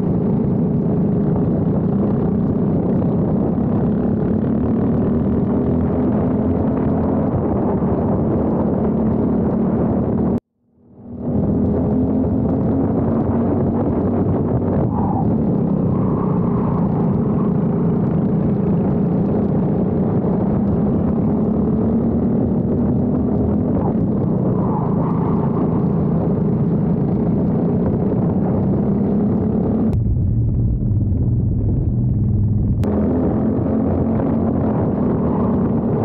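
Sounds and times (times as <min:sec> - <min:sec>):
kart engine running: 0:00.0 - 0:10.4, 0:11.1 - 0:30.0.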